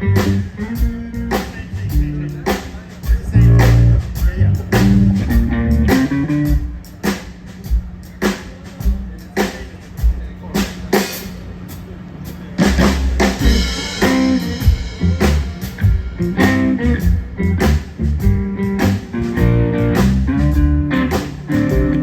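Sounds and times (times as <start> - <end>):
blues rock band playing: 0.0 - 11.4, 12.5 - 22.0.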